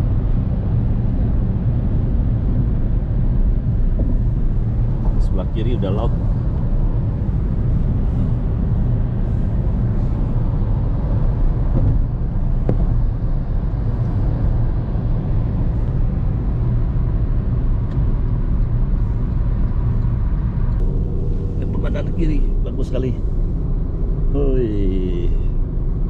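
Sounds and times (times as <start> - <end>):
car cabin road rumble: 0.0 - 26.0.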